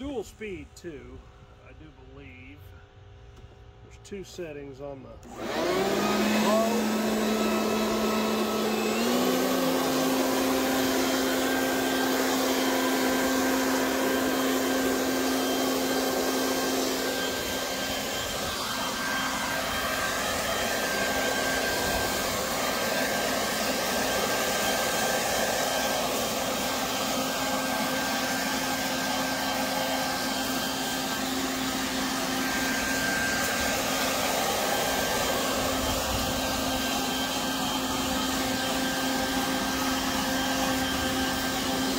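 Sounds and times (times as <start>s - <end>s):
blower motor whine: 5.1s - 41.9s.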